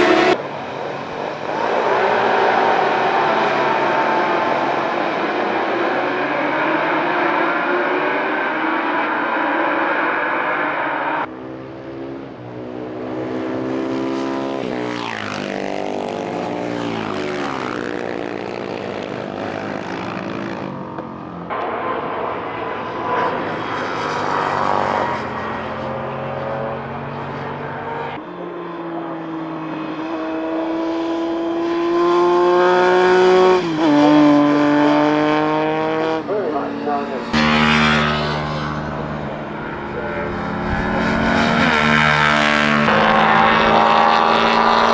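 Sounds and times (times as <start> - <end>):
loud close engine: 0.0 - 44.9
racing motorcycles passing by: 0.0 - 44.9.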